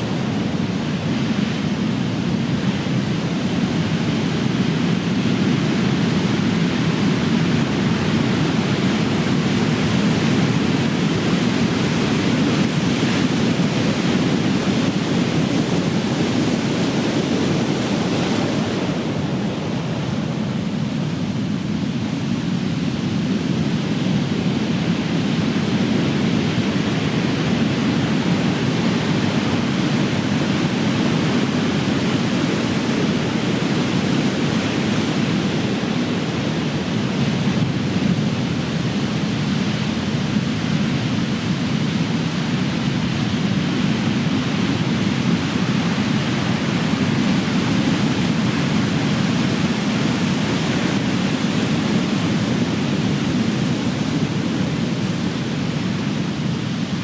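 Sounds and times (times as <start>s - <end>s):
ocean surf crashing: 6.8s - 57.0s.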